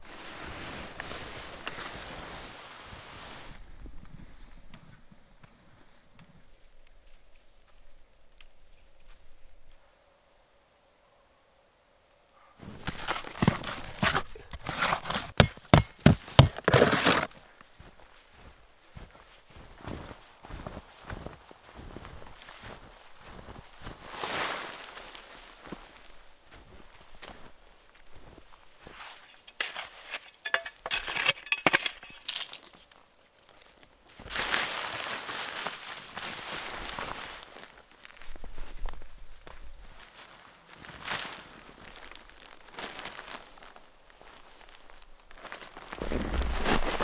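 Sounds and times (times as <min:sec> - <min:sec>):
footsteps crunching in snow: 0:00.0 - 0:08.0, 0:12.6 - 0:47.0.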